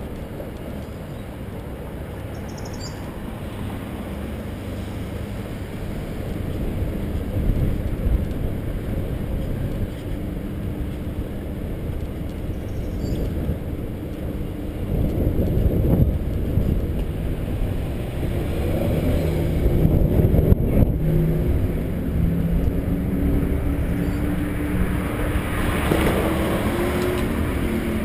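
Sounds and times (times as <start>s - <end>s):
bicycle rolling rumble: 0.0s - 28.0s
wind buffeting microphone: 4.2s - 28.0s.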